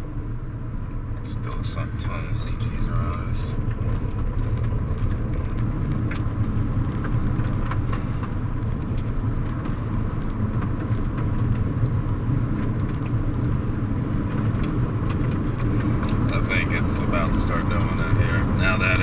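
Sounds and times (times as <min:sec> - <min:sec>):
car road and engine rumble: 0:00.0 - 0:19.0
faint ticks: 0:02.7 - 0:18.6.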